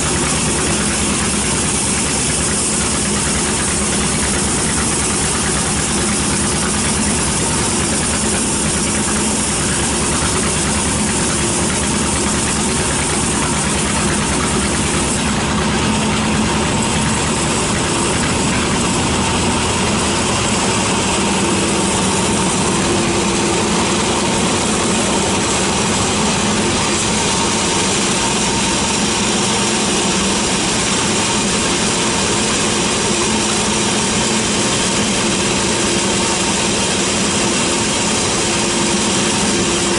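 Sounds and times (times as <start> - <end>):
band sawmill cutting log: 0.0 - 39.9.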